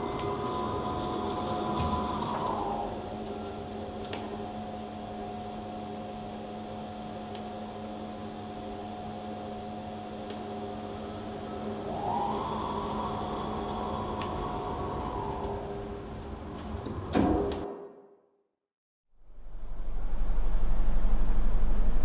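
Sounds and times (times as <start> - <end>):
dark horror drone: 0.0 - 17.8, 19.2 - 22.0.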